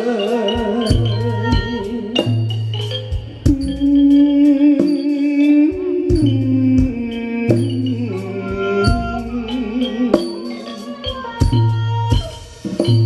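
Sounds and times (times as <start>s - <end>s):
steady drum beat: 0.0s - 13.0s
wavering melody line: 0.0s - 13.0s.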